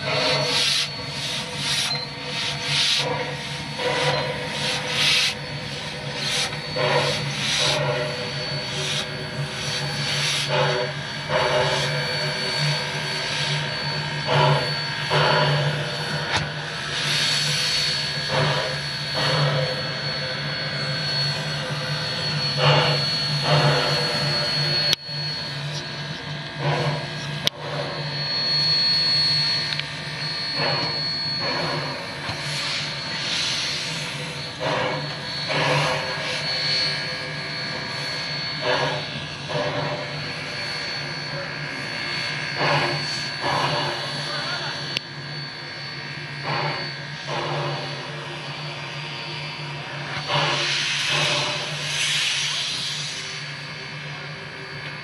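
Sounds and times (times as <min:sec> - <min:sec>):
steam locomotive steam roar: 0:00.0 - 0:55.0.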